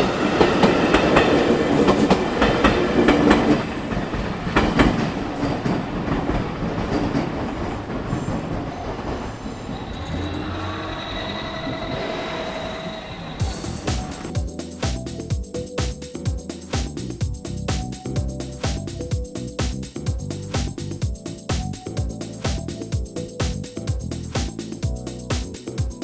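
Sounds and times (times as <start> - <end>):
train wheels clattering: 0.0 - 12.7, 13.4 - 26.0.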